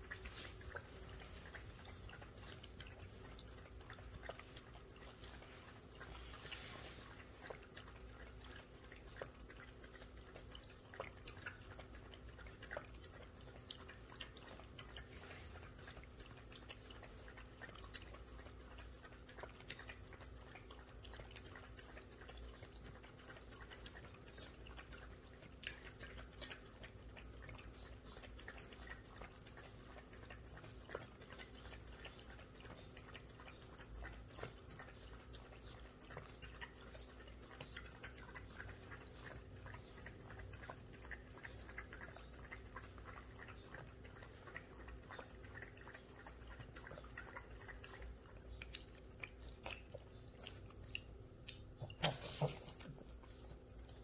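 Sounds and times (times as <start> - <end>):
puppy lapping water: 0.0 - 54.0
water trickling: 0.0 - 54.0.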